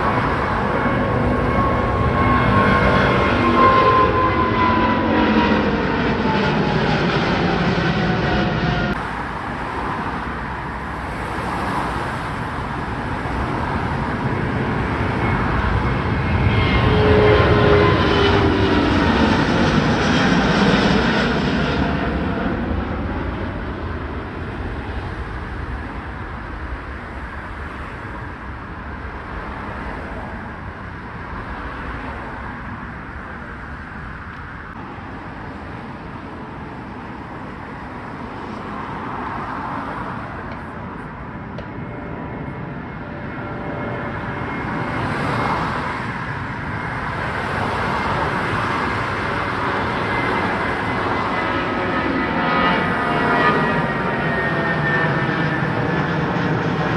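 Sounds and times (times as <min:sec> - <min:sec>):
jet airliner taking off: 0:00.0 - 0:56.9.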